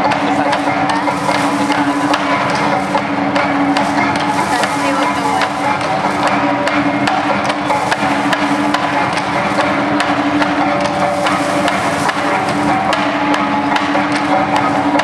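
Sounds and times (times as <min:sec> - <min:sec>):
bamboo poles clacking: 0:00.0 - 0:15.0.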